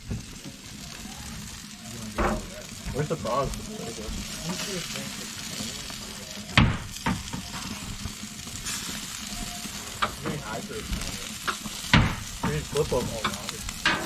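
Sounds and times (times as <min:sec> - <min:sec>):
sausages sizzling on a grill: 0:00.0 - 0:14.0.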